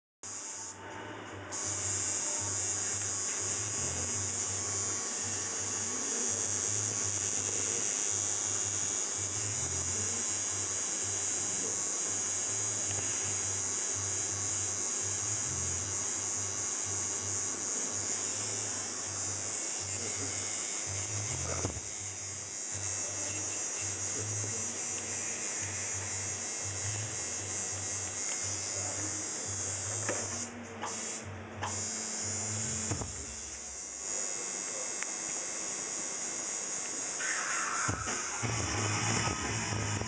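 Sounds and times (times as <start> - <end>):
electric tattoo machine buzzing: 0.2 - 40.0.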